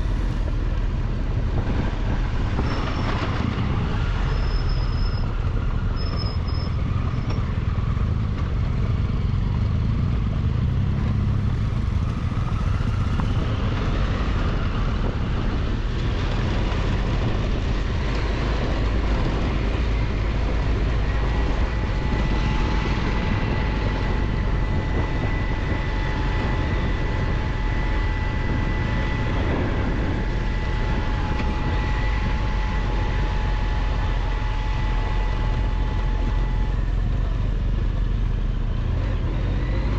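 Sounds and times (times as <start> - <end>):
road rumble: 0.0 - 39.9
wind noise on microphone: 0.0 - 39.9
motorcycle engine running: 1.2 - 39.9.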